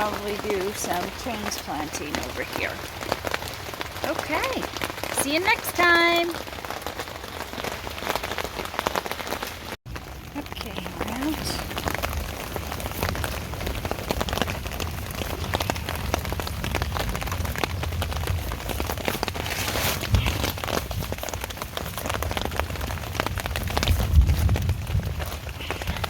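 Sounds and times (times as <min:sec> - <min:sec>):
raindrops striking close by: 0:00.0 - 0:26.0
steady rain falling: 0:00.0 - 0:26.0.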